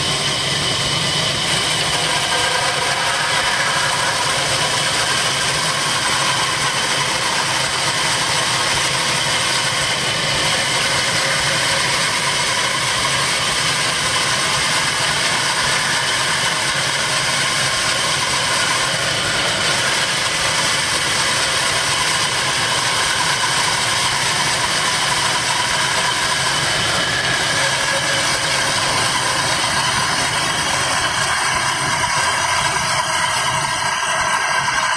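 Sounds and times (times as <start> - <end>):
circular saw whining: 0.0 - 34.9.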